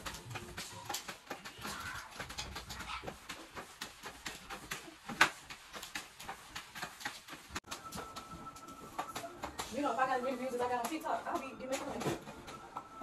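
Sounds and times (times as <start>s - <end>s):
broom sweeping tiled floor: 0.0s - 13.0s.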